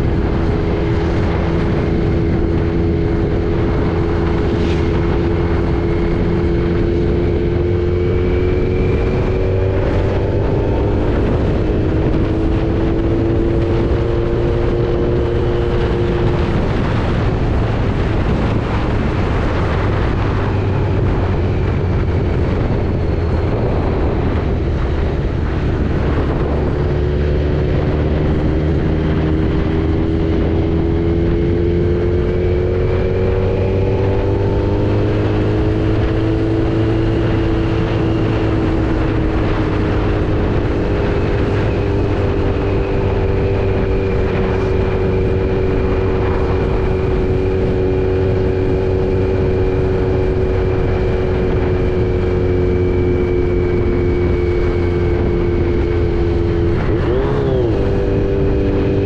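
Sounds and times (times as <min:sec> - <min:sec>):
motorcycle engine running: 0:00.0 - 0:59.0
road noise: 0:00.0 - 0:59.0
wind noise: 0:00.0 - 0:59.0.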